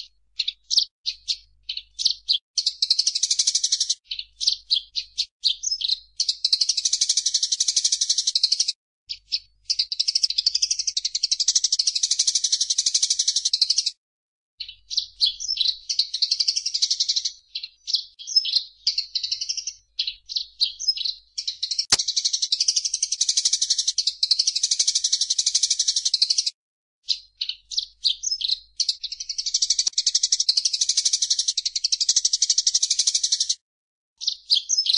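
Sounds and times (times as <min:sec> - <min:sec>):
songbird trilling and chirping: 0:00.0 - 0:13.9, 0:14.6 - 0:26.5, 0:27.1 - 0:33.6, 0:34.2 - 0:34.9.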